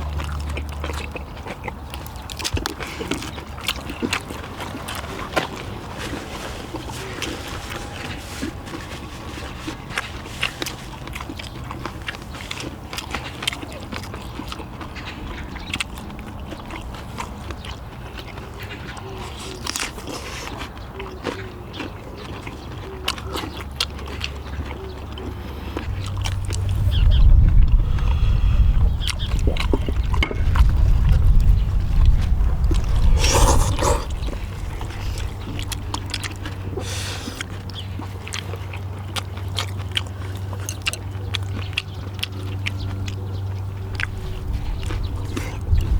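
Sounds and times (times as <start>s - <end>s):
people chewing and eating: 0.0s - 45.9s.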